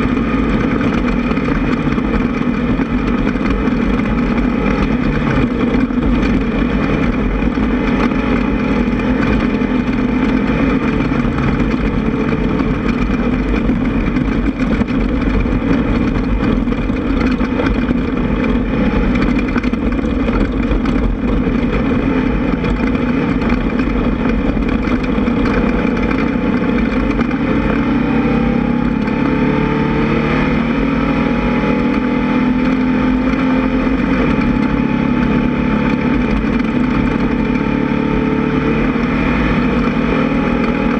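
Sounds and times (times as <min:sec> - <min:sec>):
engine running hard: 0:00.0 - 0:40.9.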